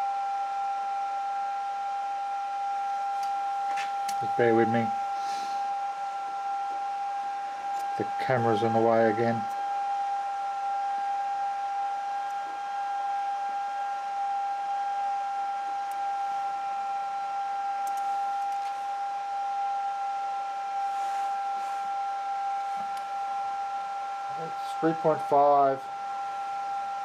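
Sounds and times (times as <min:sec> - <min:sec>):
high-pitched machine whine: 0:00.0 - 0:27.0.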